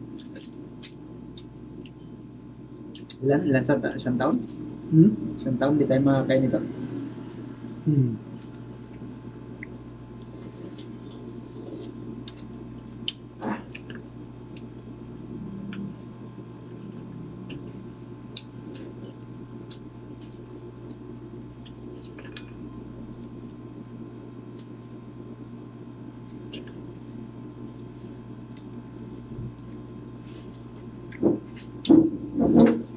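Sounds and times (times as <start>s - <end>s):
low room hum: 0.0s - 32.9s.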